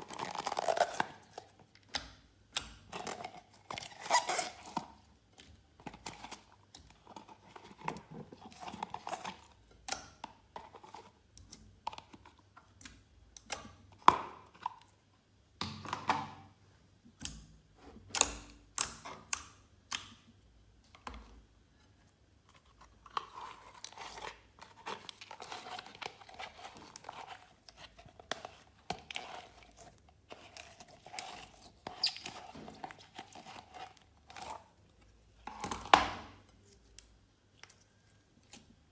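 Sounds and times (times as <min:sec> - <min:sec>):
slime crackles and squelches: 0:00.0 - 0:15.1, 0:22.0 - 0:38.9.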